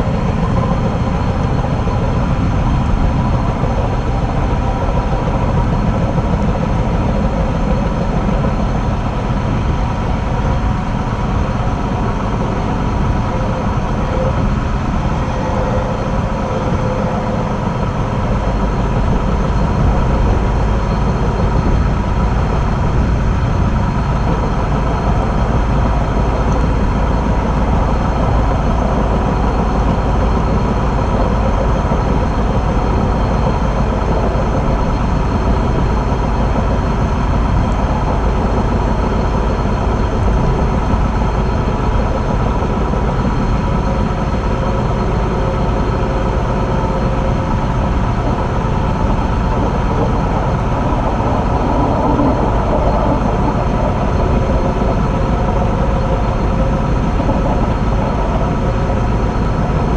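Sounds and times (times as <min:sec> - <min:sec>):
train rumbling along track: 0:00.0 - 0:59.9.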